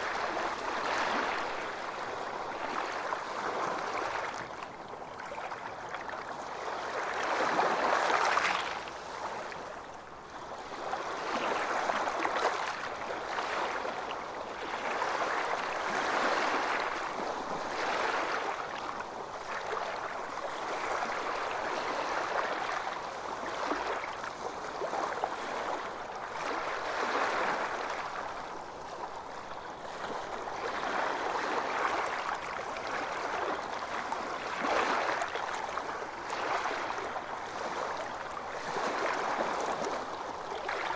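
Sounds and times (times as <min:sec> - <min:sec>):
calm waves lapping: 0:00.0 - 0:40.9.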